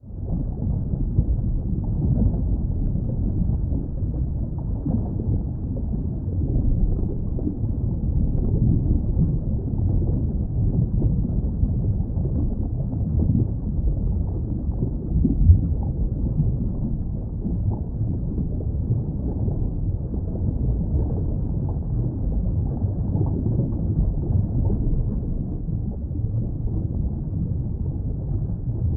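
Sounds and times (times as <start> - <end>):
muffled underwater rumble: 0.0 - 28.9.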